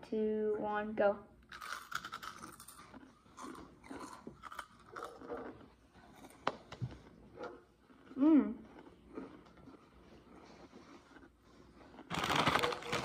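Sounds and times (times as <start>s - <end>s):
people crunching and chewing chips: 1.4s - 13.0s.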